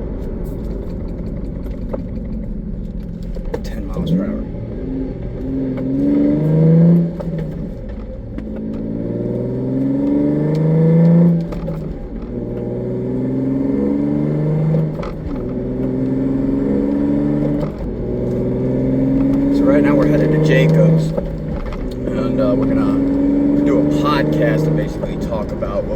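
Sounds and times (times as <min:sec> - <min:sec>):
car engine accelerating hard: 0:00.0 - 0:25.9.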